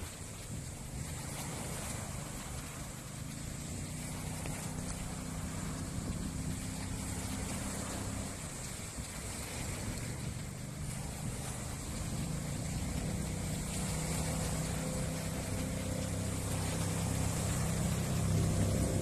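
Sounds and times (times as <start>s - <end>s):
speedboat engine running: 0.0s - 19.0s
steady hiss: 0.0s - 19.0s.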